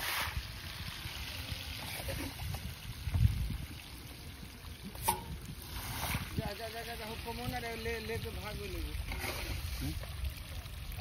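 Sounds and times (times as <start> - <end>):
water trickling and splashing: 0.0 - 11.0
wind rumbling on microphone: 0.1 - 11.0.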